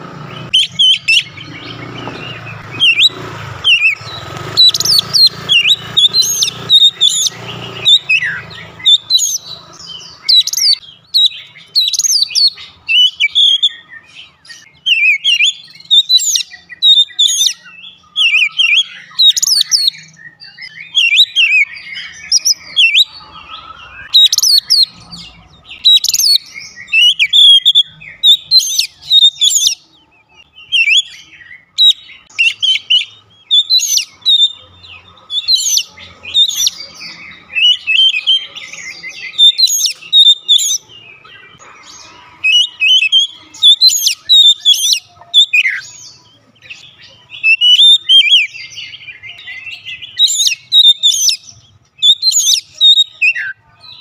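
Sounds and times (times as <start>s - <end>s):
bird singing whistled notes: 0.3s - 54.0s.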